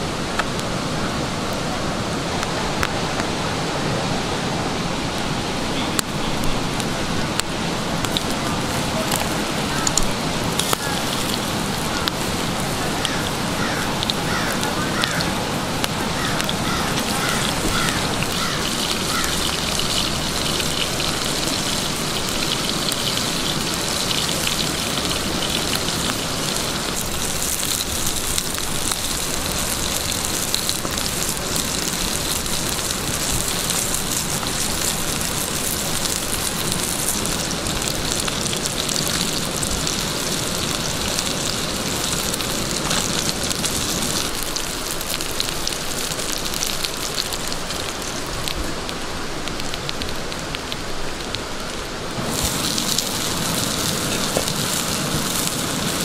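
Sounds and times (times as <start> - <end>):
wood fire crackling: 0.0 - 56.0
fish frying in oil: 6.0 - 56.0.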